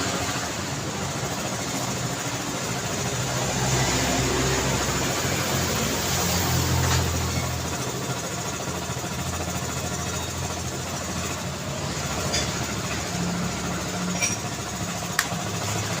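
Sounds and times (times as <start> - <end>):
traffic engines and road noise: 0.0 - 16.0.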